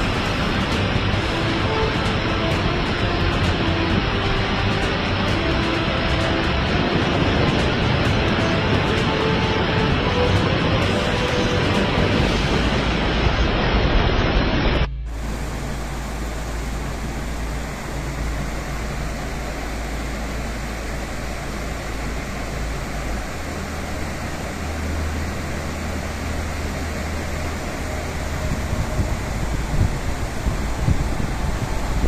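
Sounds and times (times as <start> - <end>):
heavy rain hissing: 0.0 - 32.0
low rumble of traffic: 0.0 - 32.0.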